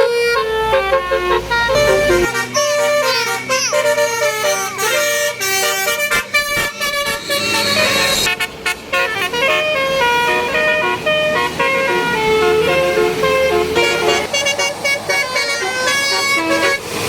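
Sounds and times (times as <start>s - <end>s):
multi-tone air horn melody: 0.0s - 17.0s.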